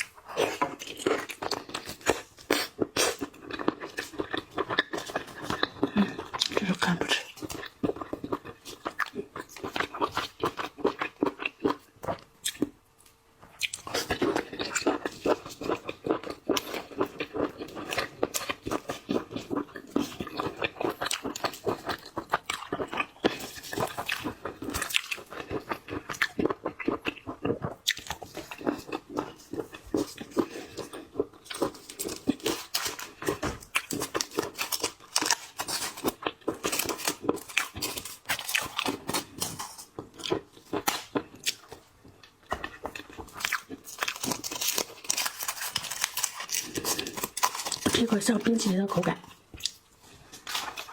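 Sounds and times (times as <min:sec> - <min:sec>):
crunching and chewing food: 0:00.0 - 0:50.9.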